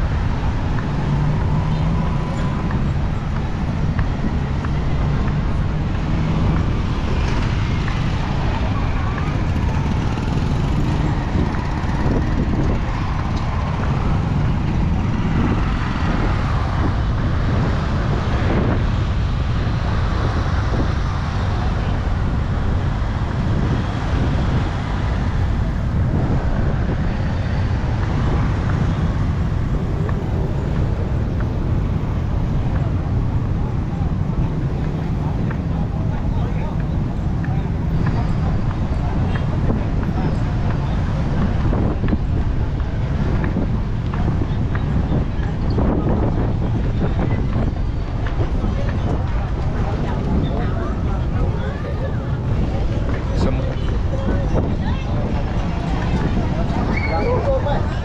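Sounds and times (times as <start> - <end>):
faint voices: 0.0 - 58.0
road traffic: 0.0 - 58.0.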